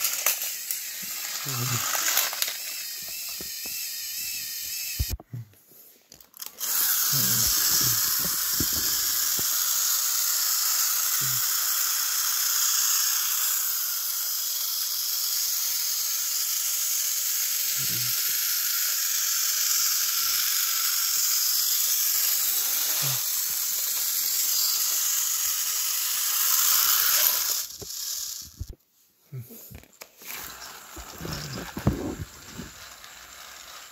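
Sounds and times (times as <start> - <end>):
toy train whirring: 0.0 - 5.2, 6.0 - 28.8, 29.8 - 33.9.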